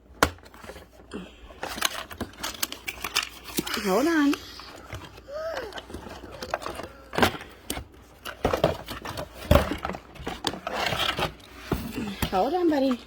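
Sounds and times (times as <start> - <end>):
plastic toy and packaging clicking: 0.0 - 13.0.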